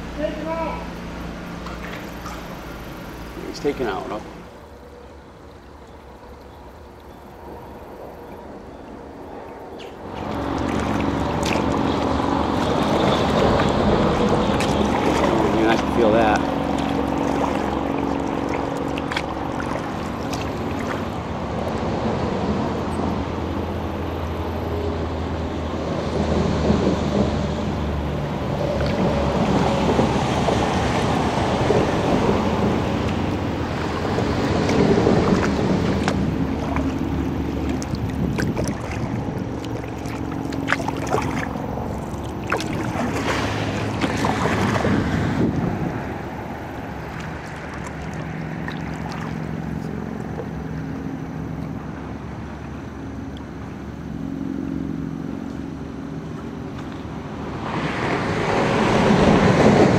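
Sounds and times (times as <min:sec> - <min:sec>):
highway traffic rumble: 0:00.0 - 0:59.9
paddle splashes and drips: 0:01.0 - 0:24.4, 0:26.4 - 0:59.9.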